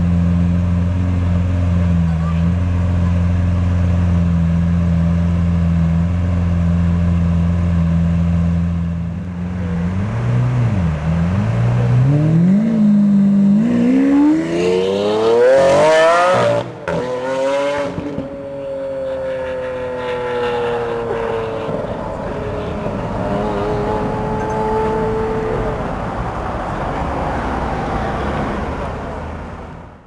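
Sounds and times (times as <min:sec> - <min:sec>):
sports car engine revving: 0:00.0 - 0:30.0.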